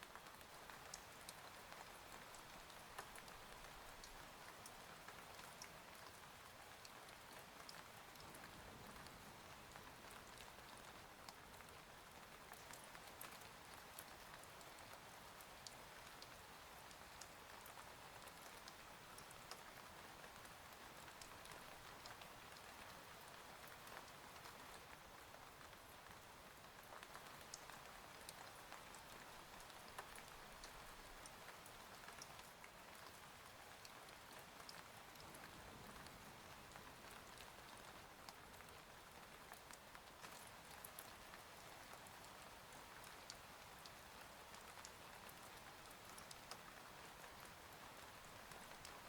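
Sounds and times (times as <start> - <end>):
faint steady rain: 0.0 - 49.0.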